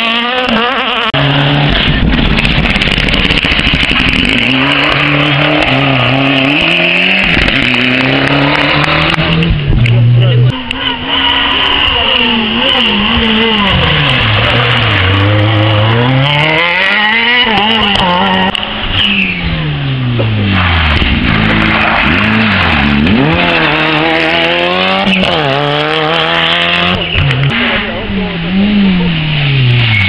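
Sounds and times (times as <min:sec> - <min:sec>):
rally car engines at full throttle: 0:00.0 - 0:30.0.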